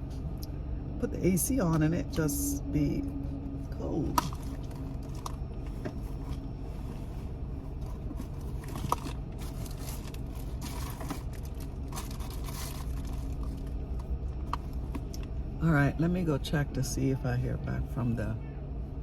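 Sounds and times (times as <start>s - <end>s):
air conditioning: 0.0s - 19.0s
truck engine idling: 0.0s - 19.0s.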